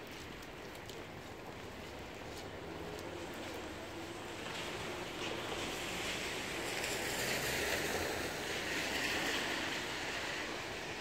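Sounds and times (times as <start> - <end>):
rain: 0.0 - 11.0
tyres on wet road: 0.0 - 11.0.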